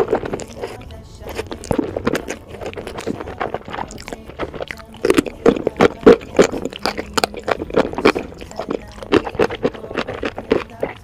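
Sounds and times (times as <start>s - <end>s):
crunchy bite: 0.0s - 11.0s
slurping and wet chewing: 0.0s - 11.0s.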